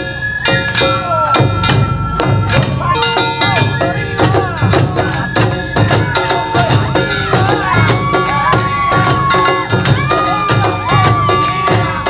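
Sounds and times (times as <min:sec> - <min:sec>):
bamboo flute high notes: 0:00.0 - 0:12.0
taiko drums: 0:00.0 - 0:12.0.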